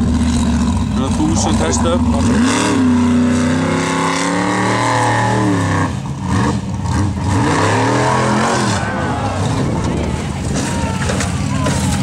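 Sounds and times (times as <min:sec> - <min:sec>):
buggy engine revving hard: 0:00.0 - 0:12.0.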